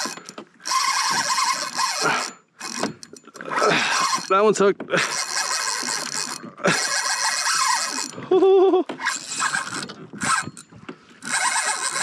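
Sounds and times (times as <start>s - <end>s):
fishing reel drag screaming: 0.0s - 4.4s, 5.0s - 8.2s, 9.0s - 10.6s, 11.2s - 12.0s.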